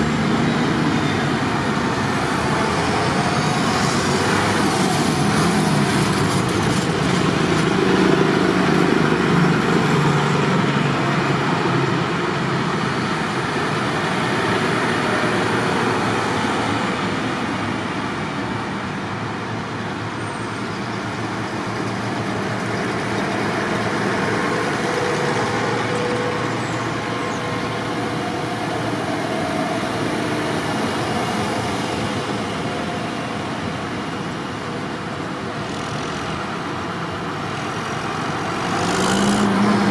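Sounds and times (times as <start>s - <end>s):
tractor engines passing: 0.0s - 39.9s.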